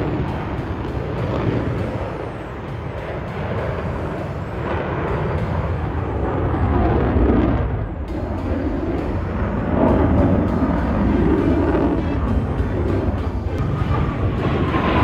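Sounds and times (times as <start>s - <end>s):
jet roaring overhead: 0.0s - 15.0s.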